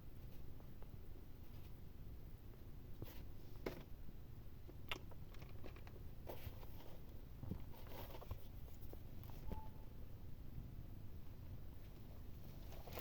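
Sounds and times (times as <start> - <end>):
faint soft clicks and rustles: 0.1 - 3.9, 4.6 - 9.7, 11.2 - 13.0.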